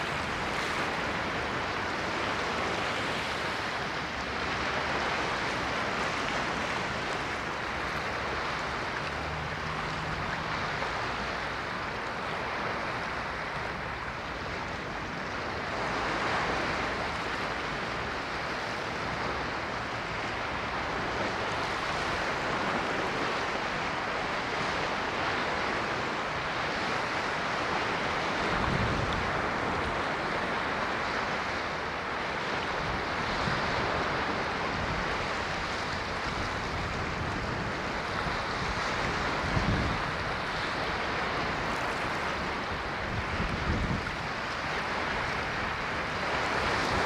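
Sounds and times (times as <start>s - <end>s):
ocean waves washing on shore: 0.0s - 47.0s.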